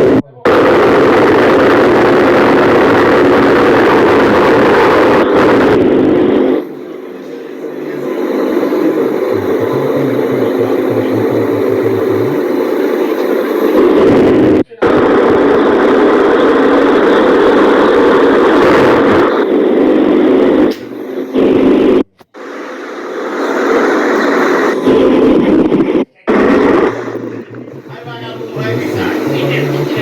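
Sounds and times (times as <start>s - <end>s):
electric fan whirring: 0.0s - 30.0s.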